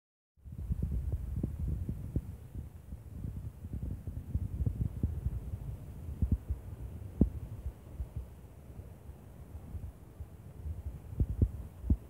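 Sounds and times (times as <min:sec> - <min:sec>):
wind buffeting microphone: 0:00.4 - 0:12.0.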